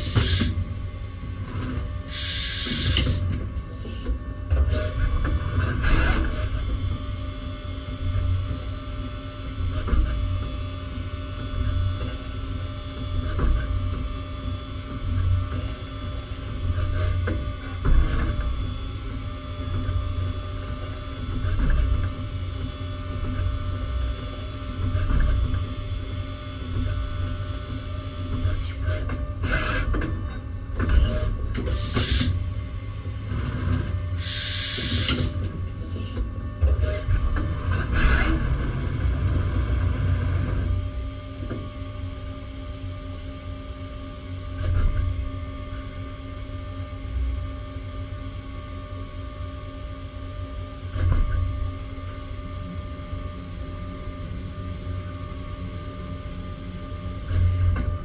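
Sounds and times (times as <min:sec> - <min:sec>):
machine low hum: 0:00.0 - 0:58.0.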